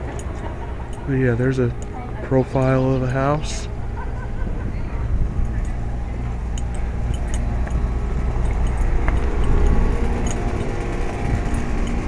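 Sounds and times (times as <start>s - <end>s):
heat pump humming: 0.0s - 12.0s.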